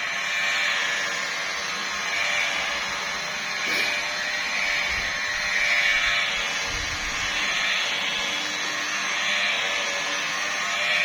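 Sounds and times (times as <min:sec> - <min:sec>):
polishing machine motor whine: 0:00.0 - 0:11.0
polishing pad hissing on paint: 0:00.0 - 0:11.0.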